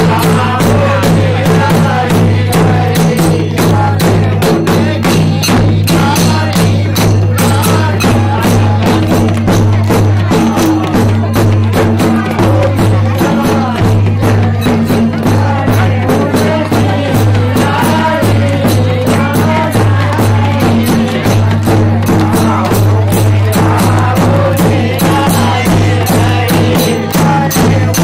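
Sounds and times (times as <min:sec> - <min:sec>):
group singing folk song: 0:00.0 - 0:28.0
hand percussion beat: 0:00.0 - 0:28.0.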